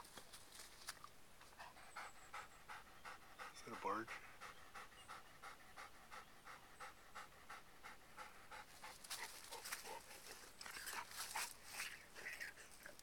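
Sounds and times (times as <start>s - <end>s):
rapid panting: 1.6s - 12.9s.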